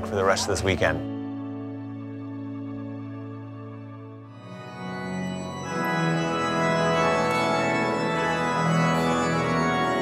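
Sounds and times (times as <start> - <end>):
organ playing slow chords: 0.0 - 10.0.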